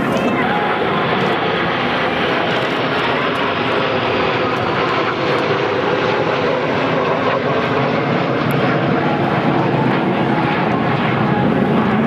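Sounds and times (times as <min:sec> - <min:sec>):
jet aircraft passing overhead: 0:00.0 - 0:12.0.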